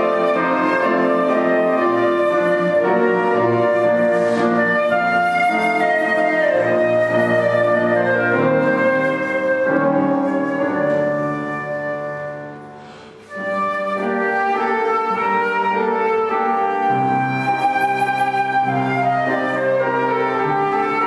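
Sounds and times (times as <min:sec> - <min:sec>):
flute: 0:00.0 - 0:21.0
piano: 0:00.0 - 0:21.0.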